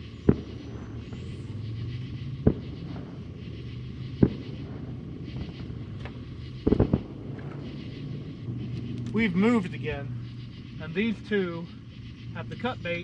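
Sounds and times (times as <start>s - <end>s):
distant fireworks booming: 0.0s - 13.0s
steady low hum: 0.0s - 13.0s.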